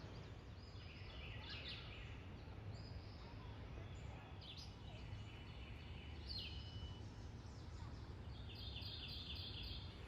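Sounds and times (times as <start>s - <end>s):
songbirds chirping and calling: 0.0s - 10.0s.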